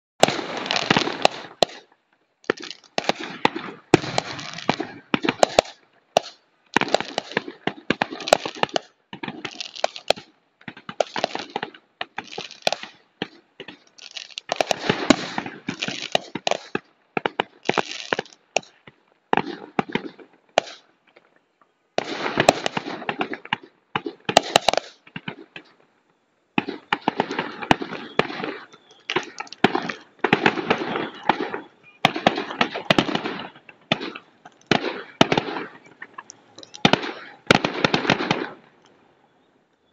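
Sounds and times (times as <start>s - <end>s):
fireworks bangs and crackling: 0.2s - 20.9s, 22.0s - 25.8s, 26.6s - 38.8s.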